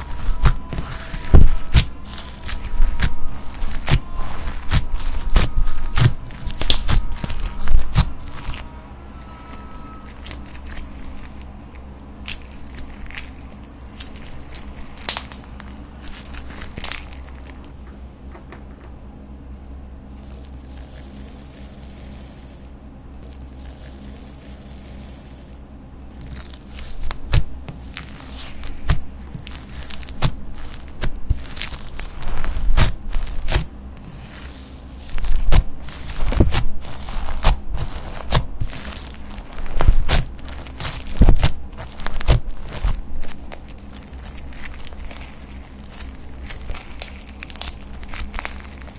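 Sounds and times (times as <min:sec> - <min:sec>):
slime crackling and popping: 0:00.0 - 0:17.7, 0:26.0 - 0:48.9.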